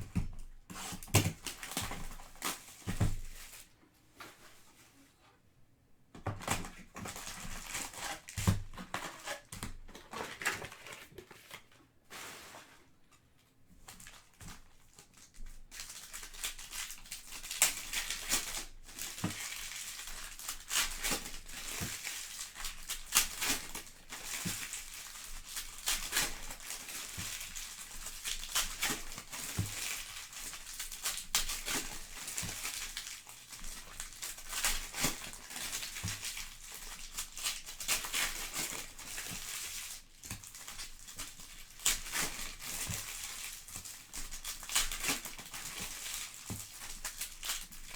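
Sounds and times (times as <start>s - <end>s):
wrappers crinkling and tearing: 0.8s - 3.7s, 6.4s - 12.7s, 13.9s - 47.9s.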